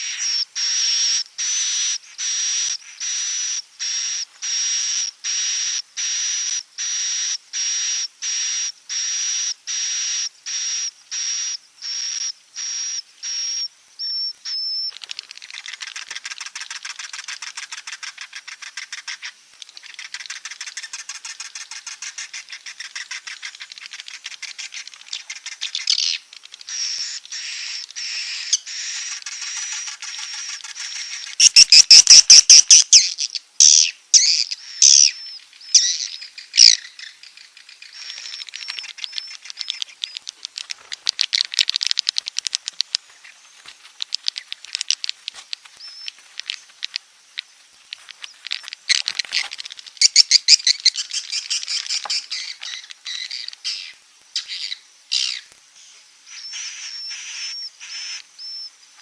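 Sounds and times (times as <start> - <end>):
recorded swiftlet calls: 0.0 - 59.0.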